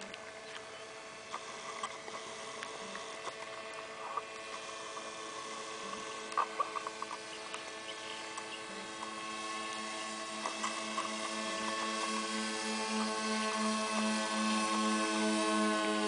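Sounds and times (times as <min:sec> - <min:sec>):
distant model airplane motor drone: 0:00.0 - 0:16.0.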